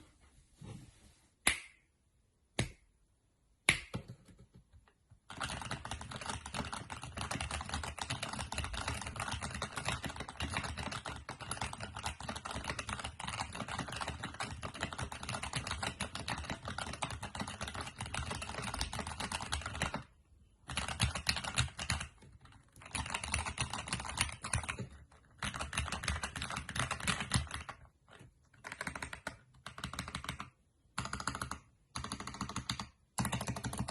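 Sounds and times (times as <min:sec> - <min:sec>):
clicky mechanical keyboard typing: 0:05.2 - 0:33.9.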